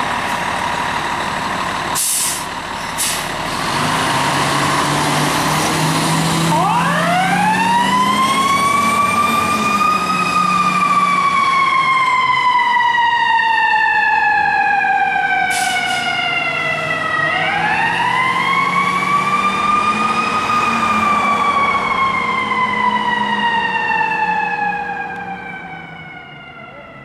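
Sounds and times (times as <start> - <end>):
fire engine siren wailing: 0.0 - 27.0
truck engine: 0.0 - 27.0.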